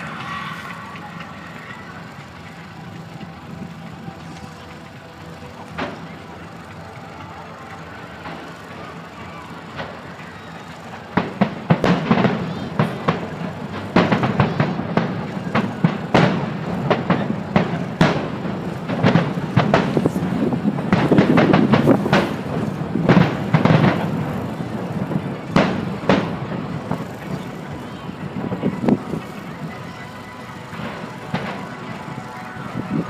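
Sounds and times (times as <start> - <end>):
fireworks bangs and crackles: 0.0 - 33.0
rumble of explosions: 0.0 - 33.0.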